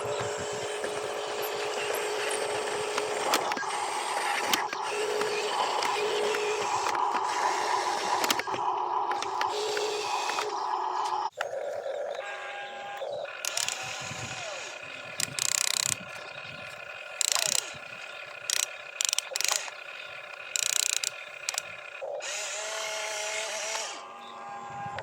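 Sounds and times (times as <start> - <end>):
clicks: 0.0 - 12.2, 13.0 - 14.5, 15.1 - 22.1
toy electric motors whining: 0.0 - 25.0.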